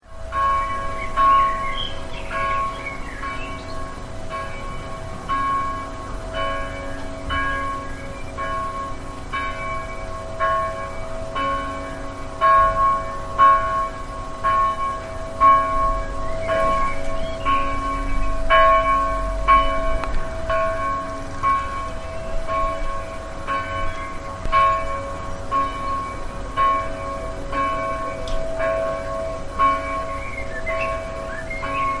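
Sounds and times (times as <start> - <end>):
church bell tolling: 0.0 - 32.0.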